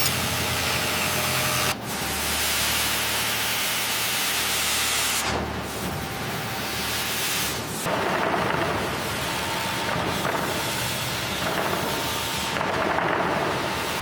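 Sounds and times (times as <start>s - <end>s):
industrial machinery hiss and hum: 0.0s - 14.0s.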